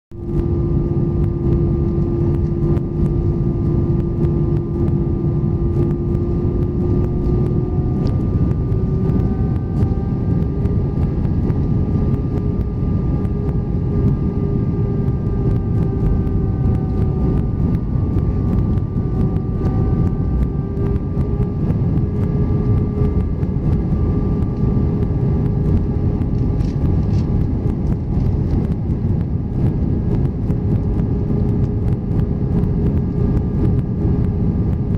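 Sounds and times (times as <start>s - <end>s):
rising hum: 0.1s - 34.9s
aircraft cabin air rush: 0.2s - 34.9s.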